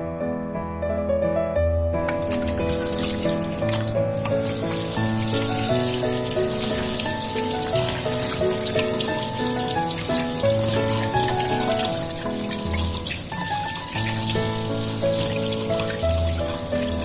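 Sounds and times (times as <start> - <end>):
gentle background music: 0.0 - 17.0
tap running into sink: 2.0 - 17.0.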